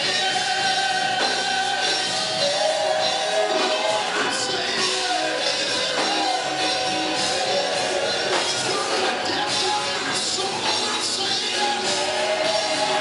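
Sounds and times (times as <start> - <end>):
gospel band with electric bass: 0.0 - 13.0
man singing into microphone: 0.0 - 13.0.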